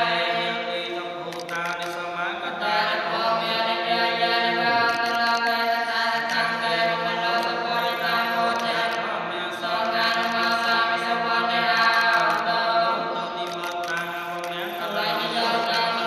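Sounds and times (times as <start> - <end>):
monk chanting in monotone: 0.0 - 16.0.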